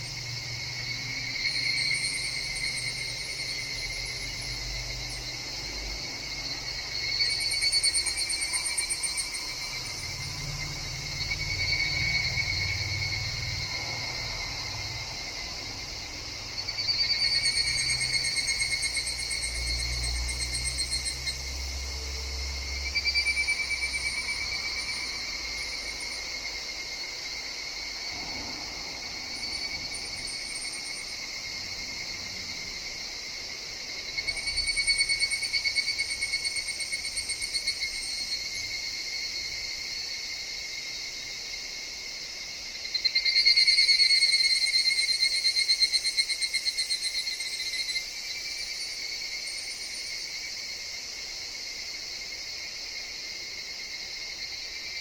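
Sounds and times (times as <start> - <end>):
cicadas trilling: 0.0 - 55.0.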